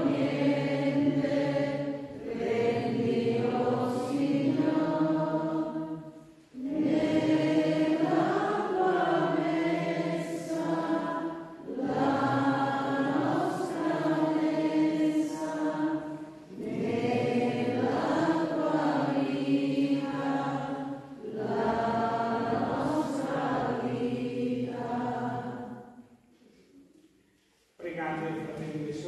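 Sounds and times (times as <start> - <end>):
voices singing a hymn: 0.0 - 26.4.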